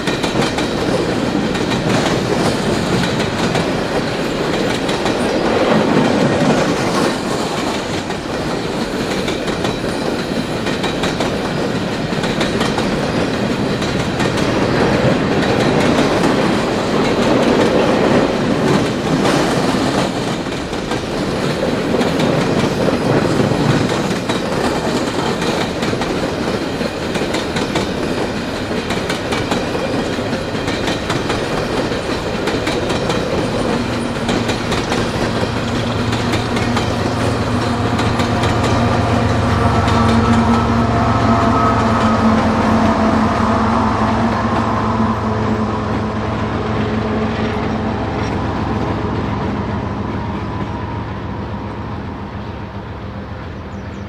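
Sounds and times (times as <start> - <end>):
freight train wheels clicking: 0.0 - 52.8
diesel locomotive engine drone: 0.0 - 54.0.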